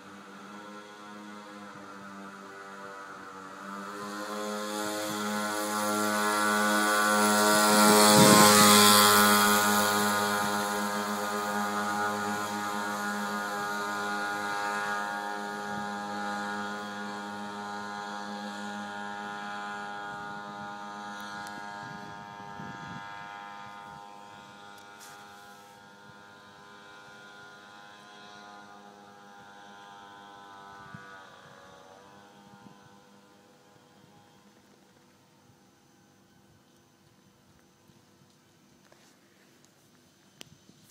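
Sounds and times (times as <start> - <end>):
mini motorcycle engine hum: 0.0 - 40.9.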